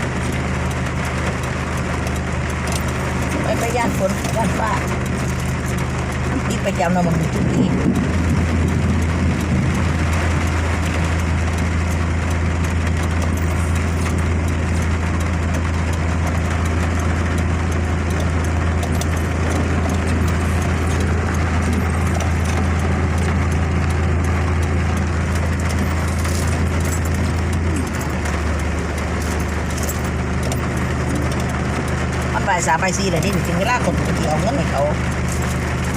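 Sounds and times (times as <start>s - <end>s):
car engine drone: 0.0s - 35.9s
road noise hiss: 0.0s - 35.9s.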